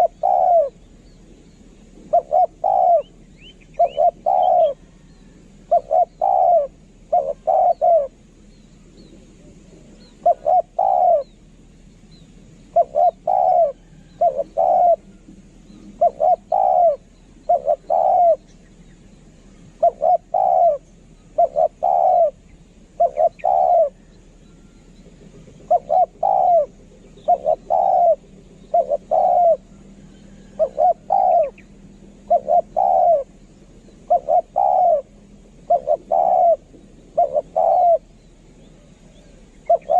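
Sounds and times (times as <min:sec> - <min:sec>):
dove cooing: 0:00.0 - 0:00.9, 0:01.8 - 0:11.5, 0:12.7 - 0:18.6, 0:19.2 - 0:39.9.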